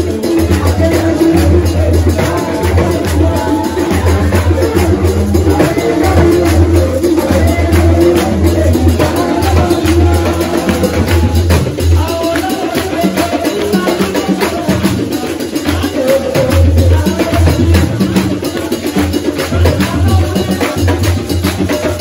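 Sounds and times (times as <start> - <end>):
congregation singing: 0.0 - 22.0
percussion with low beat: 0.0 - 22.0
hand-clapping: 0.1 - 22.0.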